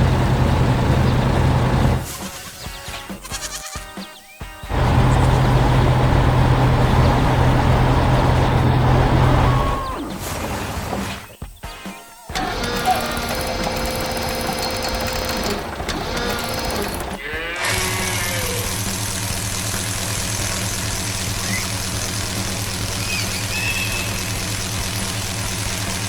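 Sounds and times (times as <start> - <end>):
heavy machine engine running: 0.0 - 2.2, 4.7 - 11.1, 12.3 - 26.0.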